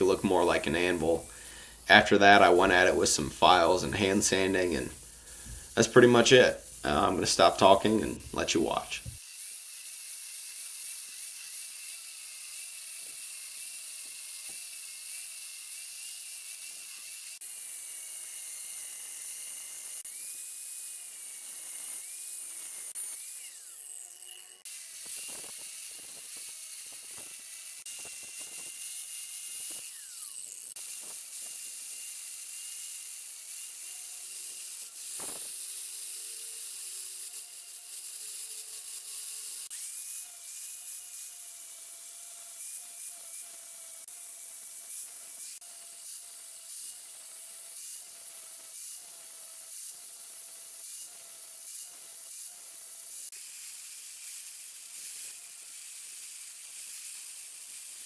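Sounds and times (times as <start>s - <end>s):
grinder on steel: 0.0s - 53.7s.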